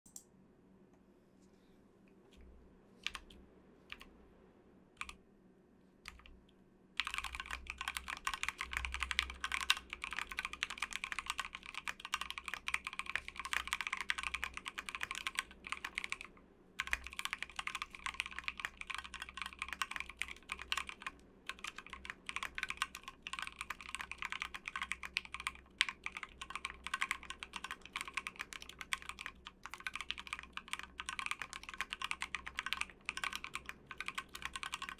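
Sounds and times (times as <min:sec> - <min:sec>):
typing on mechanical keyboard: 0:03.0 - 0:04.0, 0:05.0 - 0:05.2, 0:06.1 - 0:06.3, 0:07.0 - 0:34.9.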